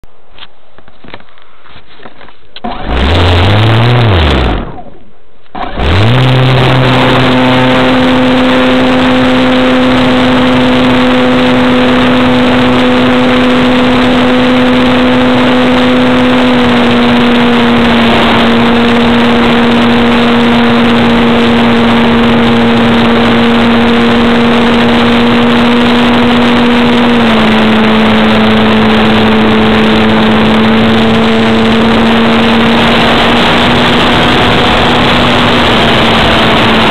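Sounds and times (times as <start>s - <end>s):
model plane motor and propeller: 1.8s - 4.9s, 5.5s - 36.9s.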